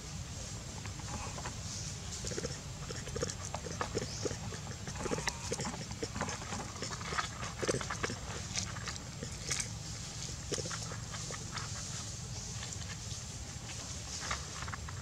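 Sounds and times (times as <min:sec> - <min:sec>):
low steady rumble: 0:00.0 - 0:15.0
small animal noises: 0:00.0 - 0:15.0.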